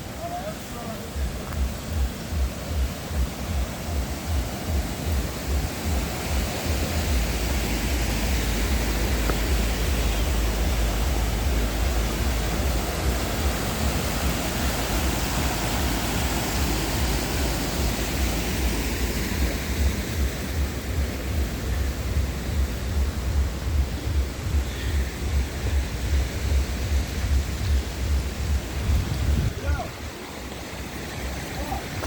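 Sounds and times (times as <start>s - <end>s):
deep rumble of falling water: 0.0s - 32.0s
waterfall rushing: 0.0s - 32.0s.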